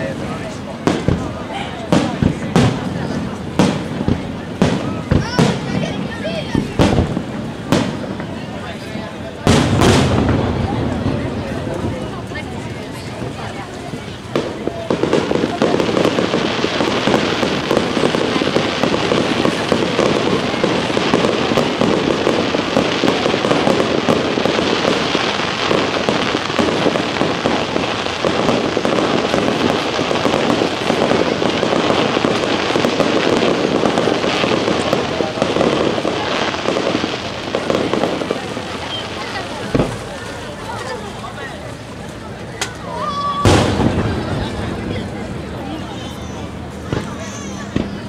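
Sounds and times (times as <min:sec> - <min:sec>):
fireworks bursting and crackling: 0:00.0 - 0:48.0.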